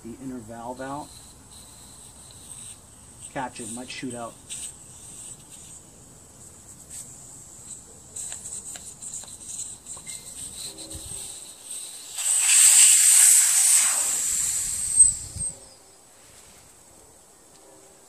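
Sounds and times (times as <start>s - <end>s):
air hissing out of tire valve: 0.3s - 16.6s.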